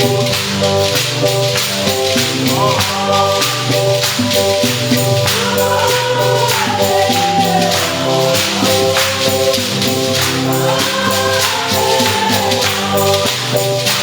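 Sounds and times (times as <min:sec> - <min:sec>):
gospel music: 0:00.0 - 0:14.0
tambourine beat: 0:00.0 - 0:14.0.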